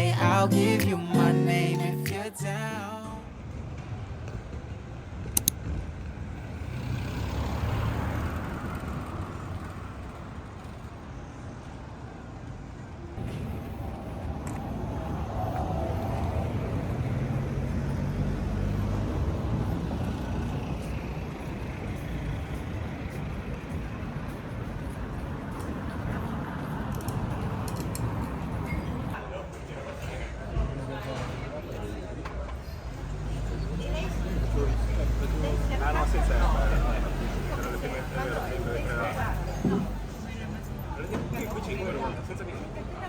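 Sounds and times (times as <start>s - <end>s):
low rumble of vehicle noise: 2.6s - 43.0s.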